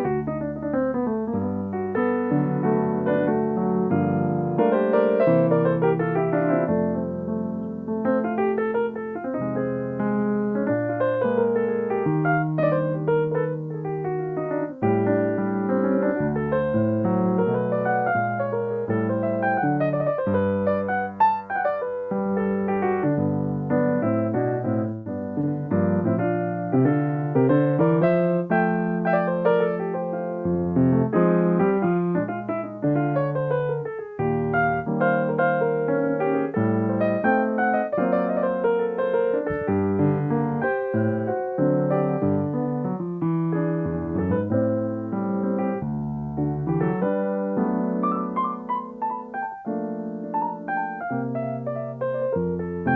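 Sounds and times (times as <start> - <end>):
gentle solo piano piece: 0.0 - 52.9.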